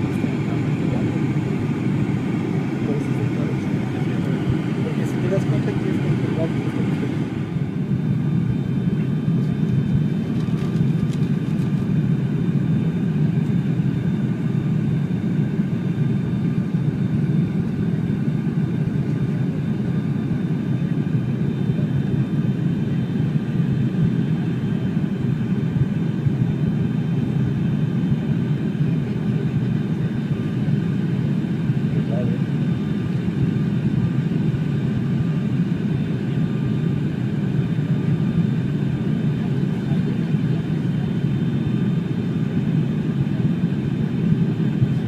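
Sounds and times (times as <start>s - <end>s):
airliner engine and airflow drone: 0.0s - 45.0s.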